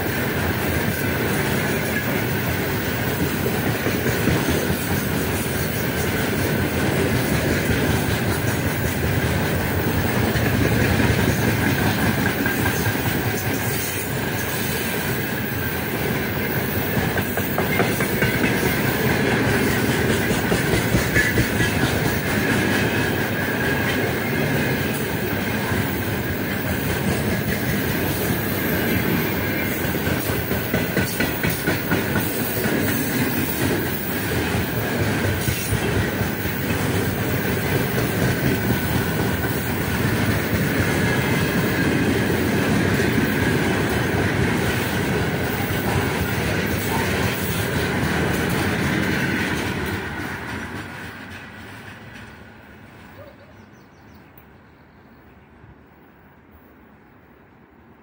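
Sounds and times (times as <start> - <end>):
wheels clickety-clack over joints: 0.0 - 52.4
steel wheels rumbling on rail: 0.0 - 53.3.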